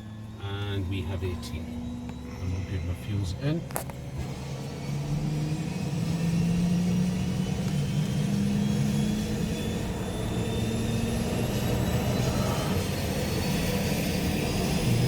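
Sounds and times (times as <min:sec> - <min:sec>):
deep engine hum: 0:00.0 - 0:15.0
turbine whine: 0:00.0 - 0:15.0.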